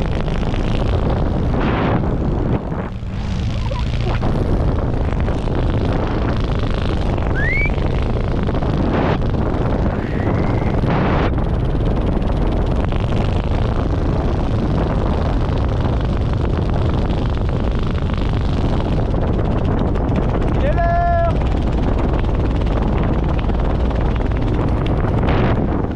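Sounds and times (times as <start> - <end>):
loud wind rushing over microphone: 0.0 - 25.9.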